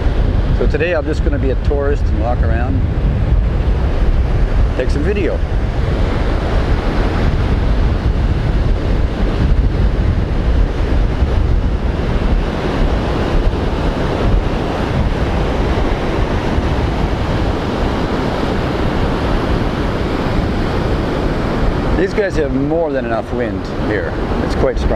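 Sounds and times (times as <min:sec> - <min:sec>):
surf breaking on beach: 0:00.0 - 0:24.9
wind buffeting microphone: 0:00.0 - 0:24.9.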